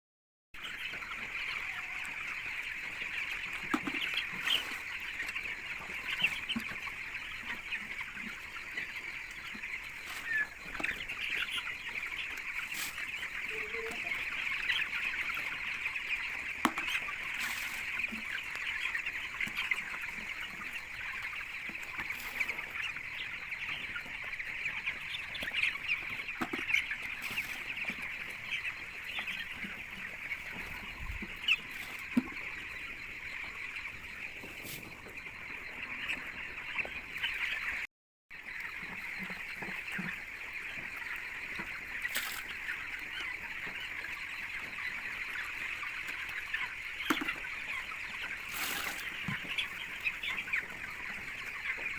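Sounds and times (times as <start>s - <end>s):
chicks peeping: 0.6s - 51.9s.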